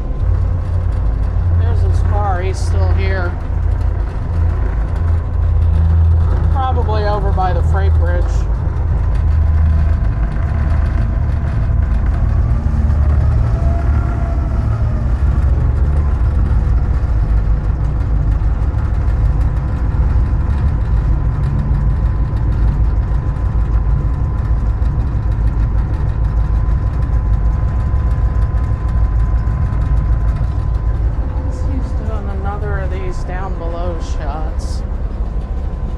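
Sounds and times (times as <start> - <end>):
diesel locomotive engine rumble: 0.0 - 35.9
faint whine: 0.0 - 35.9
wheel and rail noise: 0.0 - 35.9.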